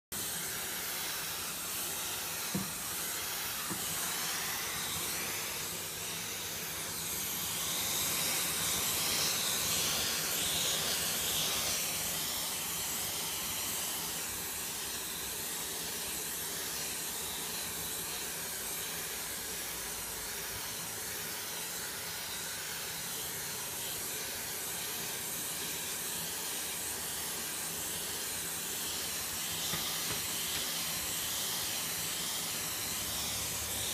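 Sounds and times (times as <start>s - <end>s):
vacuum cleaner suction hissing: 0.1s - 33.9s.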